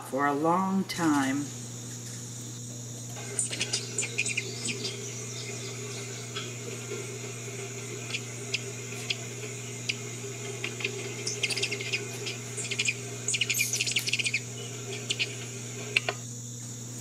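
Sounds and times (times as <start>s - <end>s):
insects droning: 0.0s - 17.0s
hummingbirds chipping: 0.1s - 17.0s.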